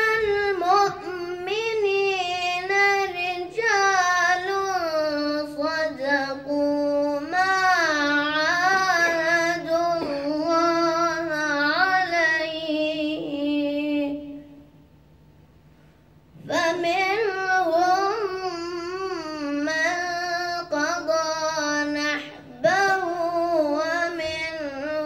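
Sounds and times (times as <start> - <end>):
boy chanting melodically: 0.0 - 14.7, 16.4 - 25.0.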